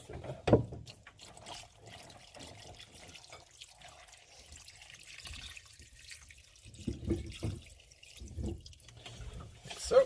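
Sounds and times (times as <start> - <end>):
water pouring into a pot: 0.8 - 10.0.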